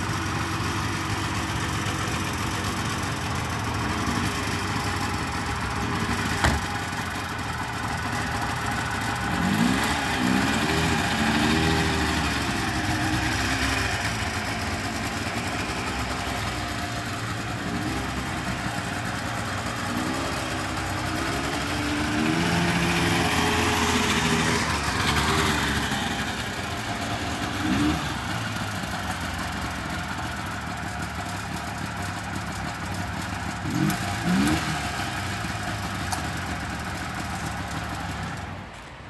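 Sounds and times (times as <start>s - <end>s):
small car engine running: 0.0s - 38.9s.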